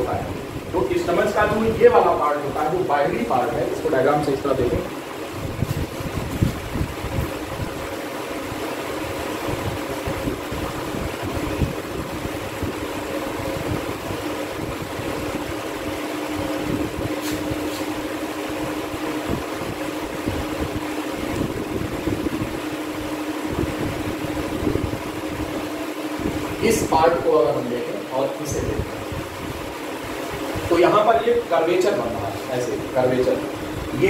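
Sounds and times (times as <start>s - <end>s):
room fan humming: 0.0s - 34.0s.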